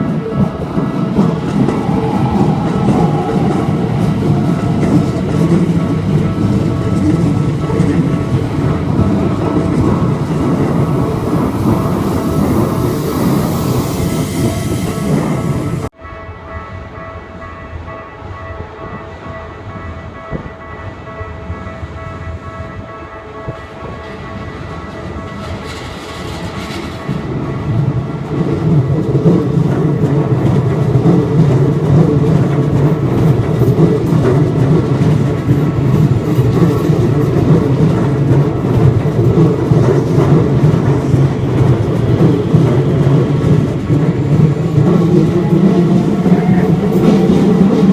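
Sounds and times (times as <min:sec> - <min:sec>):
train wheels rumbling on rail: 0:00.0 - 0:16.0, 0:18.7 - 0:47.9
crossing warning bells: 0:00.0 - 0:47.9.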